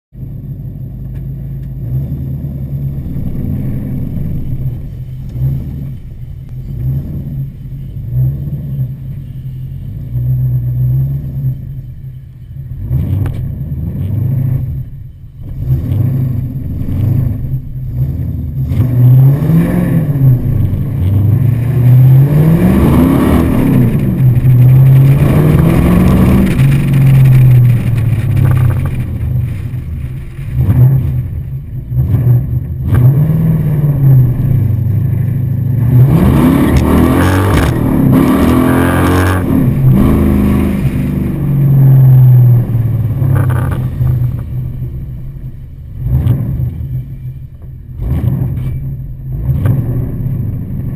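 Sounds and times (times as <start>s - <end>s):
car engine accelerating: 0.2s - 50.9s.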